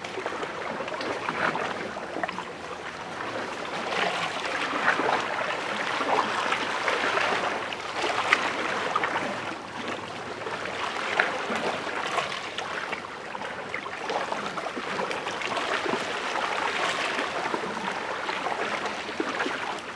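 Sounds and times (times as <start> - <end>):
waves lapping against rocks: 0.0 - 19.9.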